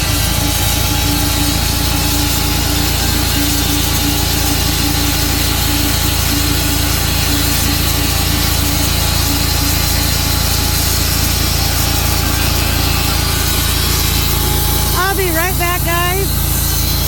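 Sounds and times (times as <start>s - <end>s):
sawmill cutting log: 0.0s - 17.0s.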